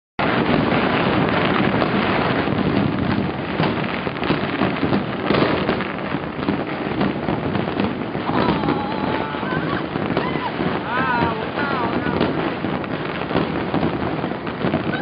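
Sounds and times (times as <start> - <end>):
fireworks crackling and popping: 0.2 - 15.0
loud firework bangs: 0.2 - 15.0.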